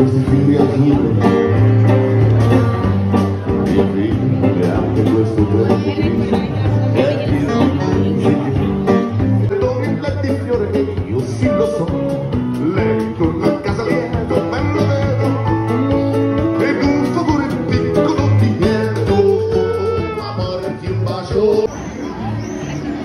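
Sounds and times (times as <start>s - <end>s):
live street band playing: 0.0s - 23.0s.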